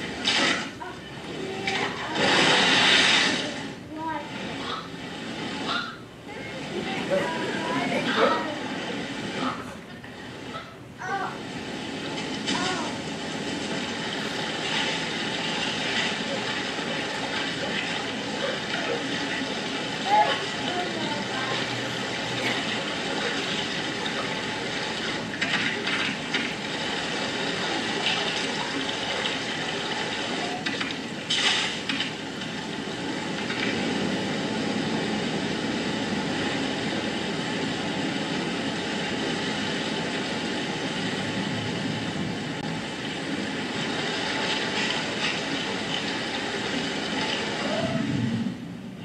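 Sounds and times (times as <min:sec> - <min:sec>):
river rushing over loudspeakers: 0:00.0 - 0:49.0.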